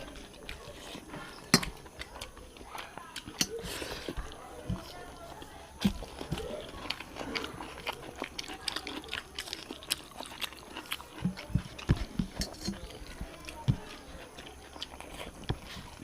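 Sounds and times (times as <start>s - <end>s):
wet chewing and lip smacks: 0.0s - 16.0s.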